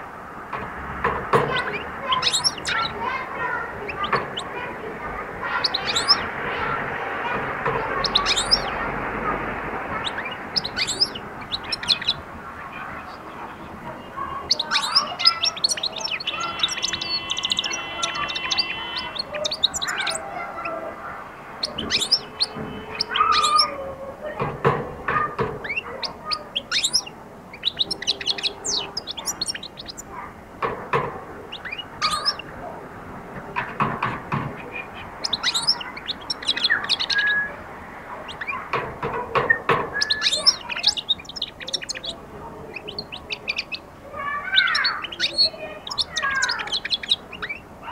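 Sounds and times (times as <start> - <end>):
goldfinch twittering and trilling: 1.3 - 23.8, 25.2 - 30.2, 31.5 - 32.5, 34.6 - 47.9.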